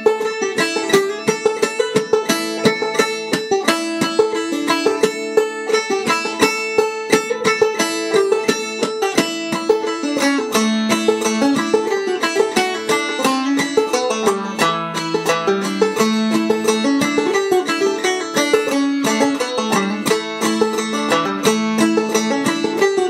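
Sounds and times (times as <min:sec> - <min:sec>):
banjo playing: 0:00.0 - 0:23.0.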